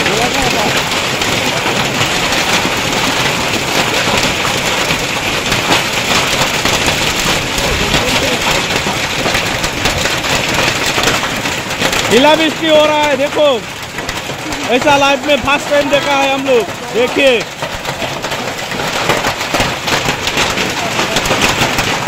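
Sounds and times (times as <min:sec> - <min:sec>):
hail and heavy rain pelting: 0:00.0 - 0:22.0.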